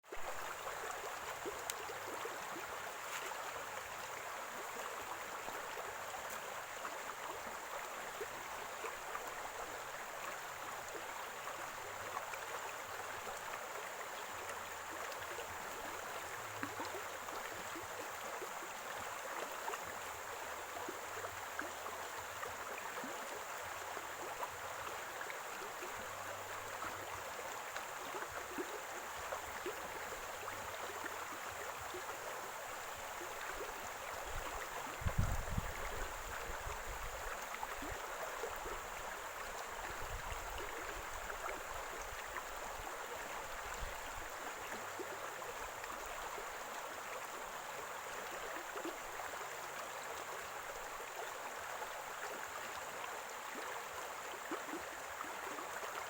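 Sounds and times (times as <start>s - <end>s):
stream gurgling and splashing: 0.0s - 56.0s.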